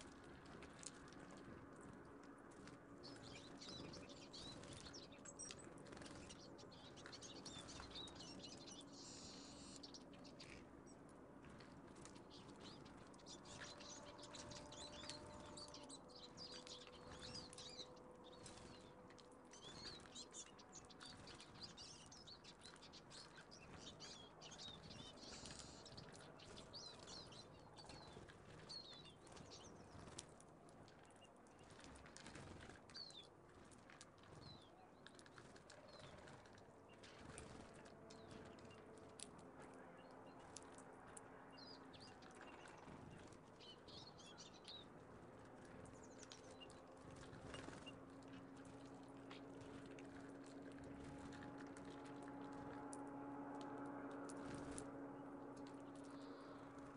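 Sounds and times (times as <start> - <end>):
small clicks of birds landing: 0.0 - 56.9
songbirds chirping: 0.0 - 56.9
wing flutters: 0.1 - 10.7, 11.4 - 39.7, 42.0 - 56.9.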